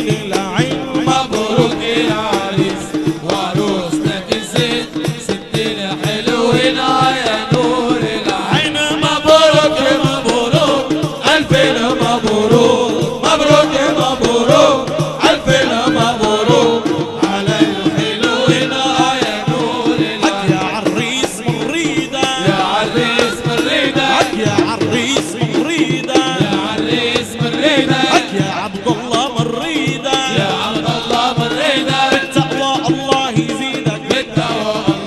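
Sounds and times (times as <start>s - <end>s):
chant-like singing: 0.0s - 35.0s
steady driving drum beat: 0.0s - 35.0s.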